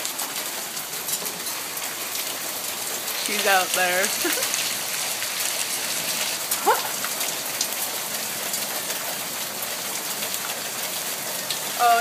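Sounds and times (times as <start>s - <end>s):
hail falling: 0.0s - 12.0s.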